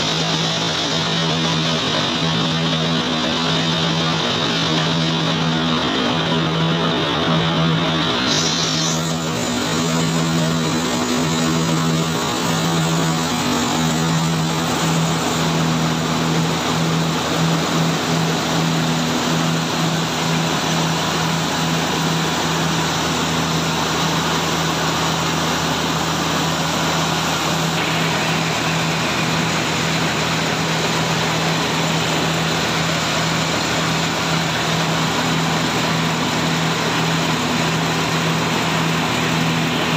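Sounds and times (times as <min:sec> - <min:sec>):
motor hum: 0:00.0 - 0:39.9.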